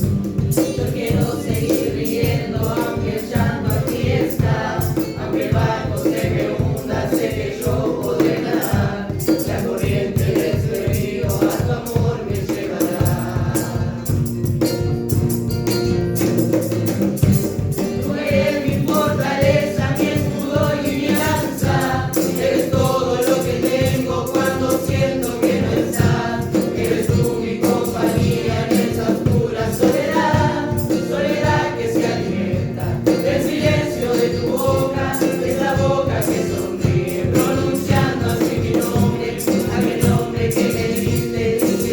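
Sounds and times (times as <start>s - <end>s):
group singing: 0.0s - 15.3s, 16.1s - 41.9s
percussive beat: 0.0s - 41.9s.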